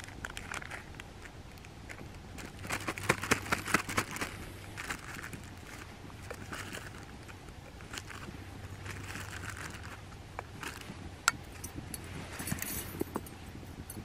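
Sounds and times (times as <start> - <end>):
plastic bag rustling: 0.0 - 13.2.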